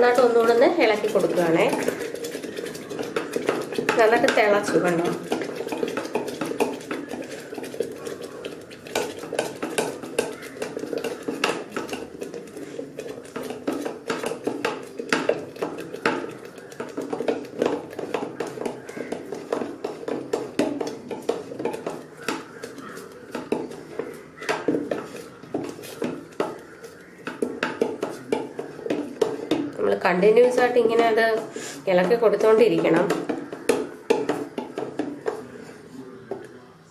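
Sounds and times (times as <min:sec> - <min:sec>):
spoon stirring thick porridge: 0:00.0 - 0:36.9.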